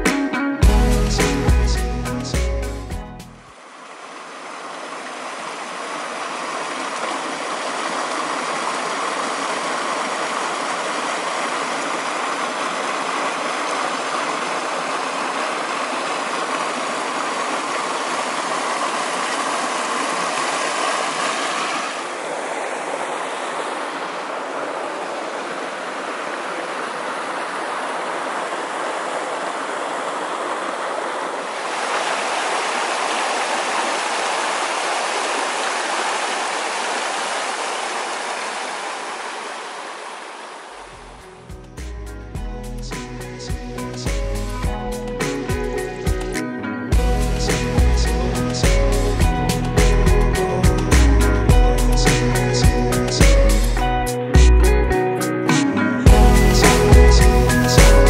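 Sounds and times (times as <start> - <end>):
stream rushing over rocks: 3.5 - 41.6, 43.0 - 53.9.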